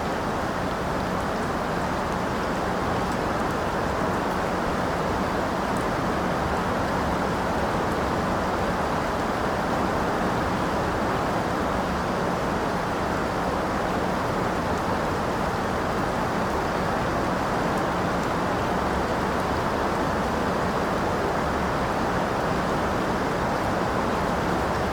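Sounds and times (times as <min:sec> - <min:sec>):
steady rain: 0:00.0 - 0:24.9.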